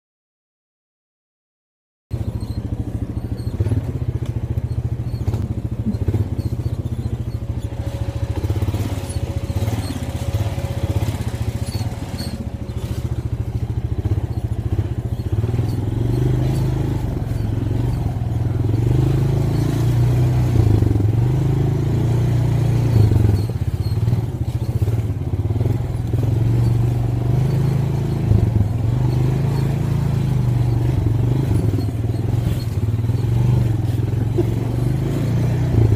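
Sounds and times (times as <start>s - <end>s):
atv engine droning: 2.1s - 35.9s.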